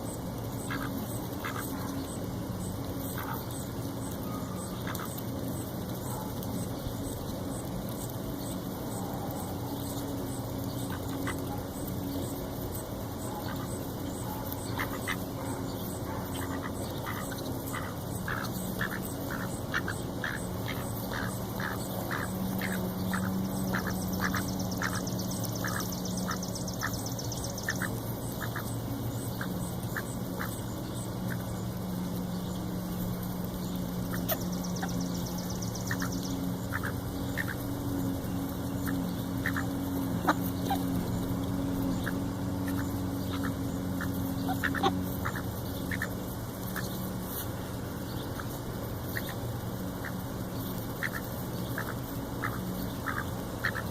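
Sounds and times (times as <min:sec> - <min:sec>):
ducks quacking: 0:00.0 - 0:02.3, 0:02.9 - 0:06.4, 0:10.7 - 0:53.9
low steady hum: 0:00.0 - 0:53.9.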